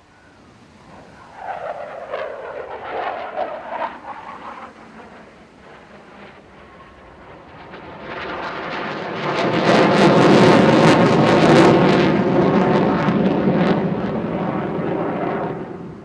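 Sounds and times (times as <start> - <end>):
jet engines roaring with crackle: 0.0 - 16.0.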